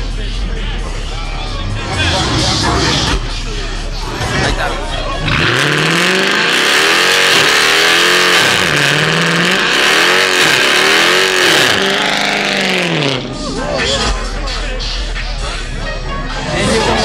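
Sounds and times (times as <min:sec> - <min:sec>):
car engine revving: 0:00.0 - 0:15.7.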